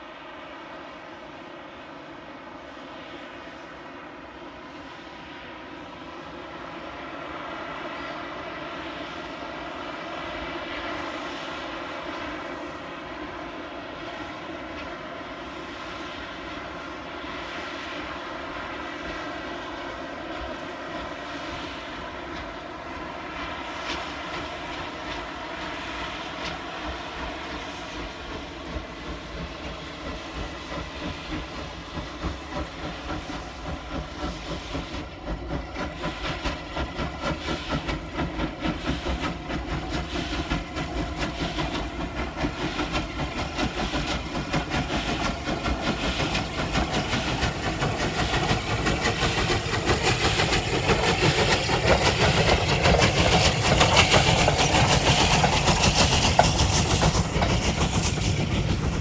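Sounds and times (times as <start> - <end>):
train droning: 0.0 - 59.0.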